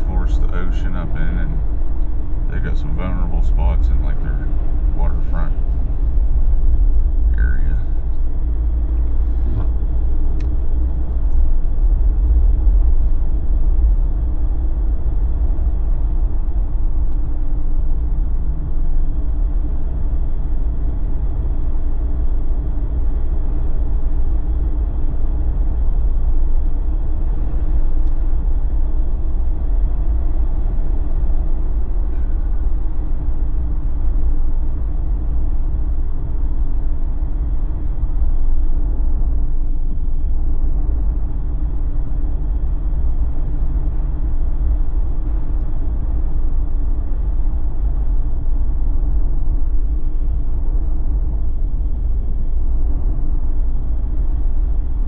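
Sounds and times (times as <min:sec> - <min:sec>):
vehicle driving rumble: 0:00.0 - 0:55.0.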